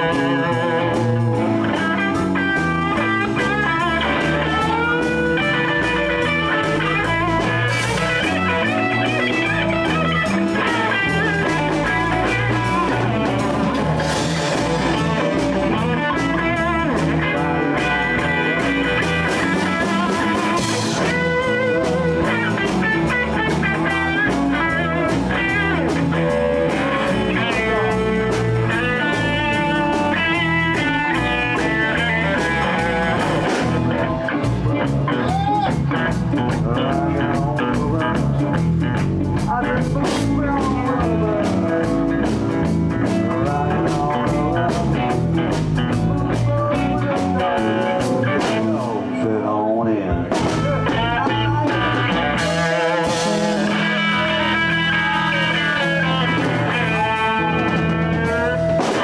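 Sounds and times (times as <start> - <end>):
drum kit: 0.0 - 49.1, 50.1 - 59.0
bass guitar: 0.0 - 59.0
electric guitar bent notes: 0.0 - 59.0.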